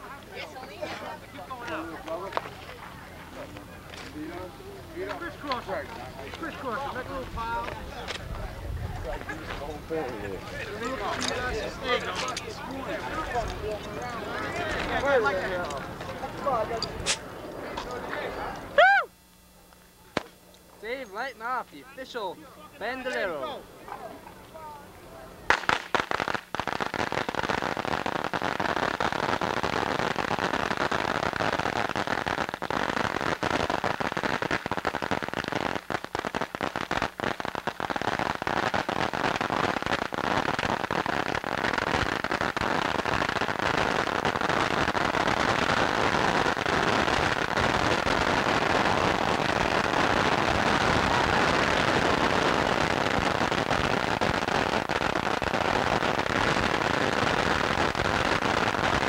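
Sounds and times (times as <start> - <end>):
firecrackers crackling: 0.0 - 59.0.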